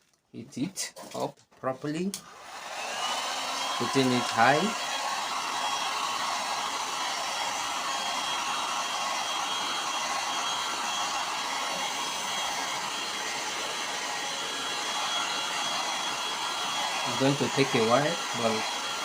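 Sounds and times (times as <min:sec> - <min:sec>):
hot-air gun blowing with whine: 0:02.2 - 0:19.0.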